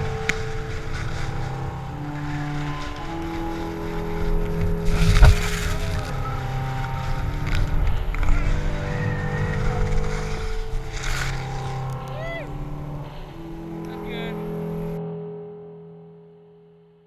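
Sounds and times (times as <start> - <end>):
skis carving on snow: 0.0 - 14.9
wind rumble on microphone: 0.0 - 15.0
background music with held notes: 0.0 - 17.0.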